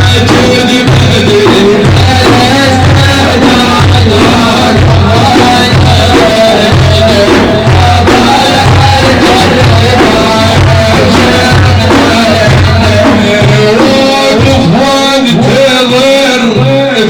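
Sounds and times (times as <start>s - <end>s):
steady loud drum beat: 0.0s - 17.0s.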